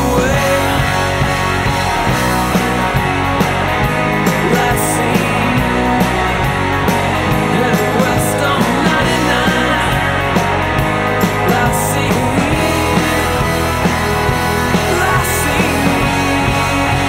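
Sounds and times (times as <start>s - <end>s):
loud rock music: 0.0s - 17.0s.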